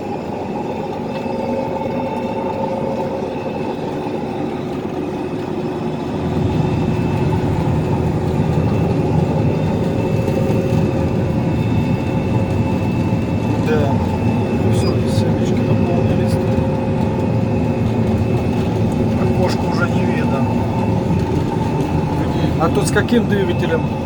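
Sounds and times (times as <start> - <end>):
constant whine: 0.0 - 24.0
machine drone: 0.0 - 24.0.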